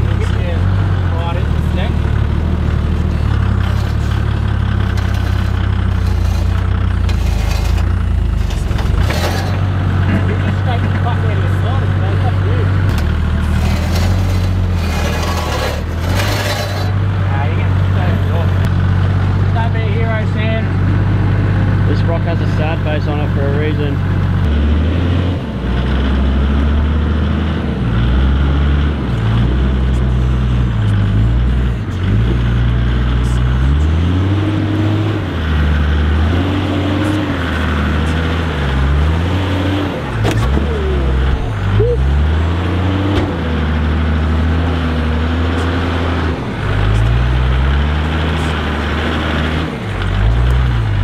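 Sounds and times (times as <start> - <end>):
engine revving at low revs: 0.0 - 51.0.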